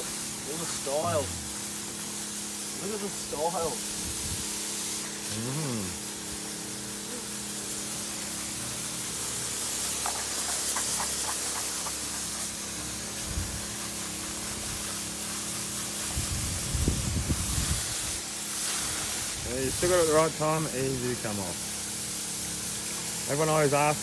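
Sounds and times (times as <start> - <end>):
hose nozzle spraying water: 0.0 - 24.0.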